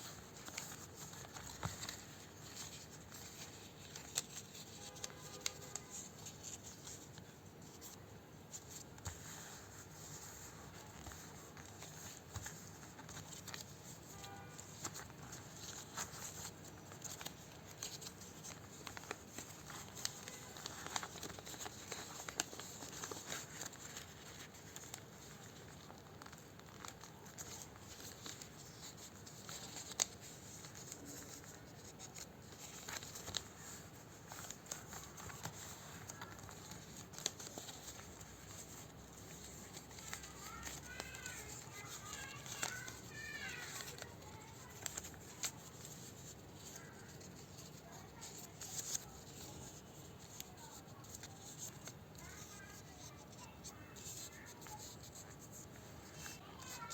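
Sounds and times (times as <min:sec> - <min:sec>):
paper rustling and crinkling: 0:00.0 - 0:56.9.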